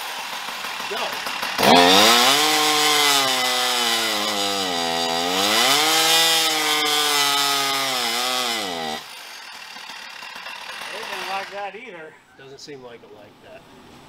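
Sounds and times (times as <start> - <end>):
chainsaw at full throttle: 0.0 - 11.6.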